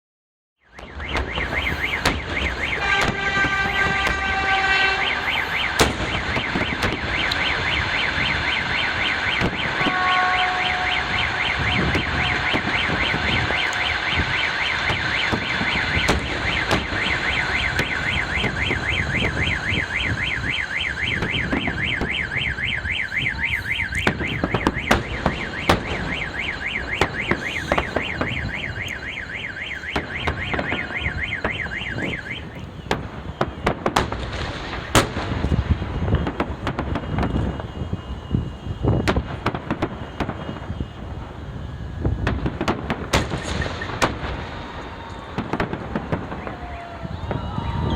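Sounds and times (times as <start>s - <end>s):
car alarm wailing: 0.6s - 47.9s
fireworks bangs: 0.7s - 47.9s.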